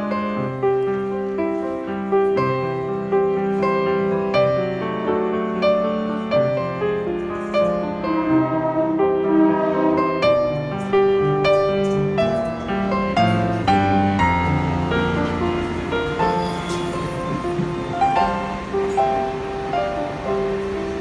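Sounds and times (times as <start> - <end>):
piano melody: 0.0 - 21.0.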